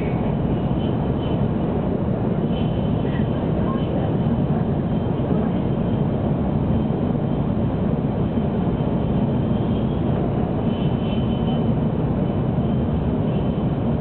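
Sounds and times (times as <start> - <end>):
train cabin low rumble: 0.0 - 14.0.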